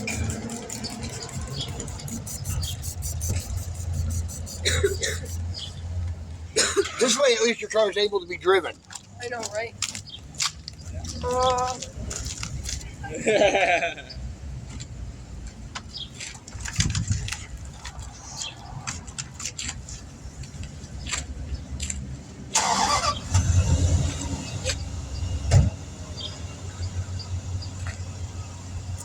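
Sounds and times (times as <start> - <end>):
car engine rumbling: 0.0 - 13.4, 14.0 - 29.0.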